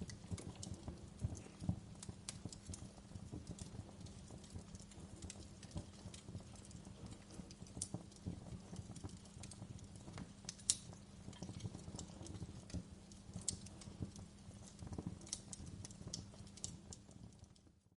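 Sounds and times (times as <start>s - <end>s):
faint steady hum: 0.0s - 17.9s
low rumble of flames: 0.0s - 17.9s
wood fire crackling and popping: 0.0s - 17.9s.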